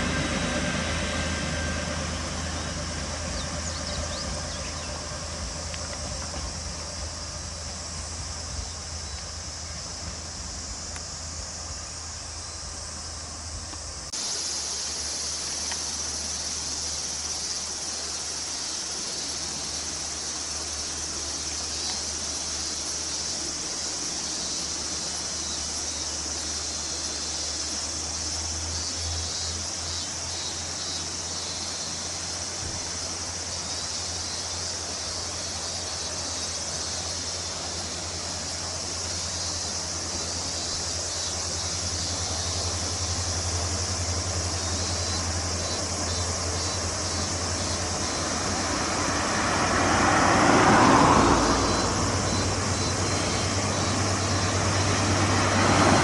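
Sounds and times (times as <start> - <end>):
diesel train engine drone: 0.0 - 56.0
insects trilling: 0.0 - 56.0.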